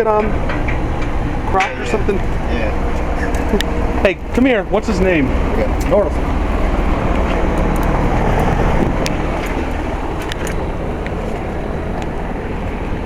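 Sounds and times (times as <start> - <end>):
heat pump unit humming: 0.0 - 13.0.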